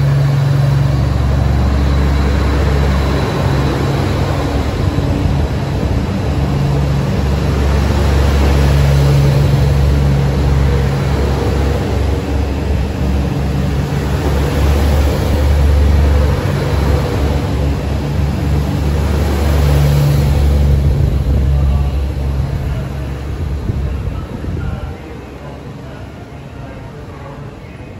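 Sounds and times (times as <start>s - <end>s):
diesel engine drone: 0.0s - 27.9s
train mechanical rumble: 0.0s - 27.9s.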